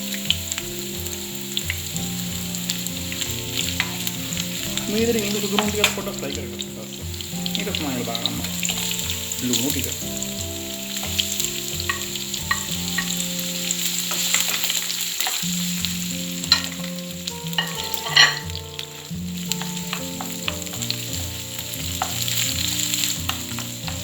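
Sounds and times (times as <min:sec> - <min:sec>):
onions sizzling in hot oil: 0:00.0 - 0:24.0
spoon scraping a pan: 0:00.0 - 0:24.0.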